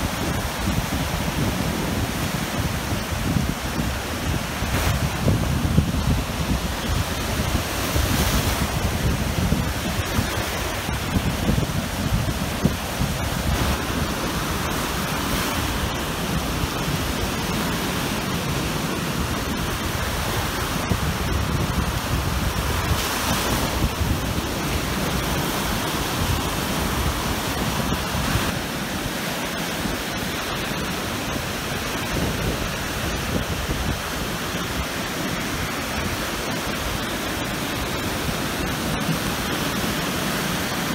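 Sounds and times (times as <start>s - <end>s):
waves breaking on shore: 0.0s - 40.9s
wind rumbling on microphone: 0.0s - 40.9s.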